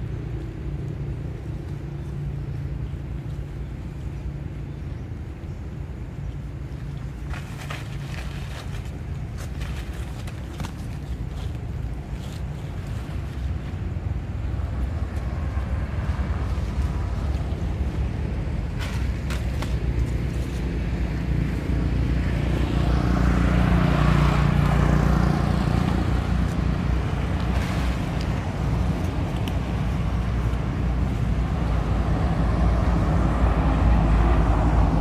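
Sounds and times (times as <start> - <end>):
steady low rumble: 0.0 - 35.0
vehicles passing on road: 0.0 - 35.0.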